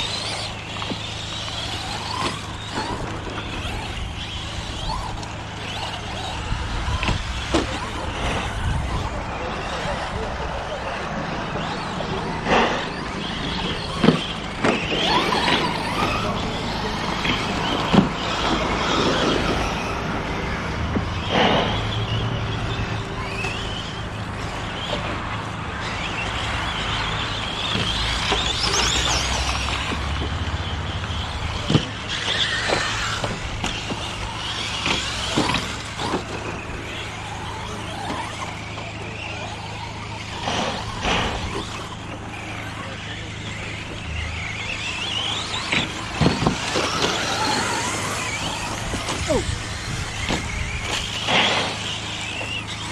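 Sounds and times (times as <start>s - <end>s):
electric motors whining: 0.0s - 52.9s
tyres scrabbling on dirt: 0.0s - 52.9s.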